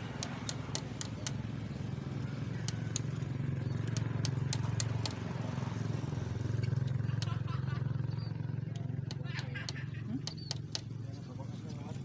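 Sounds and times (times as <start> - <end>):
sharp irregular clicks: 0.0 - 5.8, 6.5 - 11.0
motor engine running: 0.0 - 12.0.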